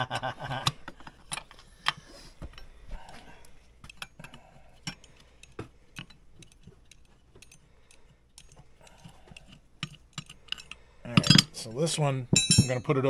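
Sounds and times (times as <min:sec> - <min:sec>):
wrench clicking on metal parts: 0:00.5 - 0:11.6.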